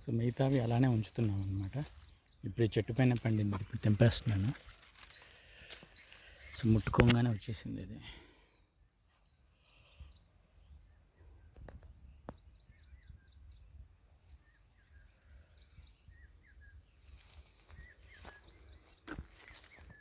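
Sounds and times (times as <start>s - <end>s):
faint birdsong chirps: 0.0s - 20.0s.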